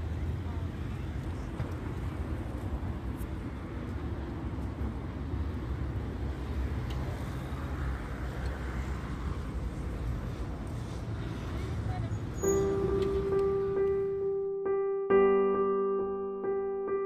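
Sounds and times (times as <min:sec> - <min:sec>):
road noise rumble: 0:00.0 - 0:17.0.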